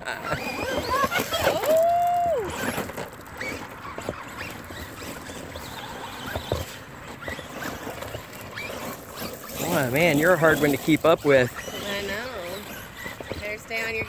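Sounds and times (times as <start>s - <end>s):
electric motor whines: 0.0s - 14.0s
tyres churning mud and stones: 0.0s - 14.0s.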